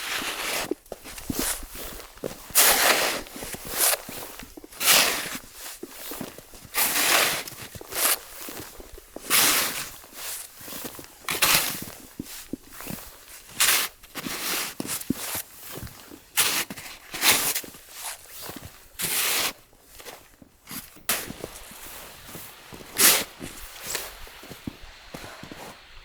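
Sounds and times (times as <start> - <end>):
footsteps crunching in snow: 0.0 - 26.0.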